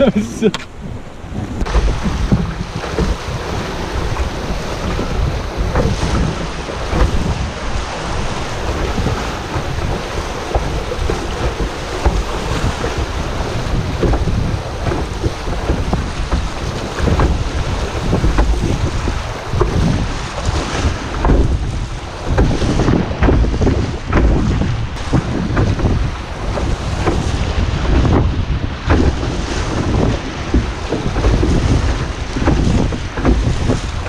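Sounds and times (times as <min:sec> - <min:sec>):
rushing splashing river water: 0:00.0 - 0:34.0
wind buffeting microphone: 0:00.0 - 0:34.0.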